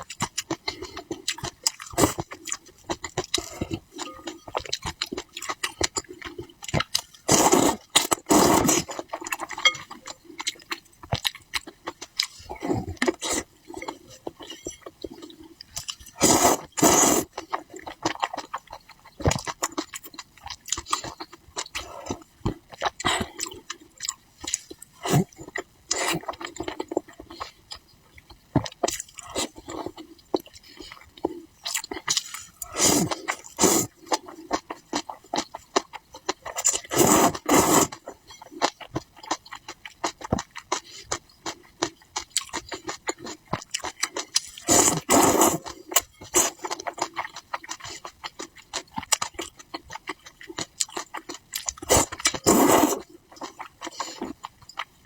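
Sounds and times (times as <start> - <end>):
wet chewing and crunching: 0.0 - 55.0.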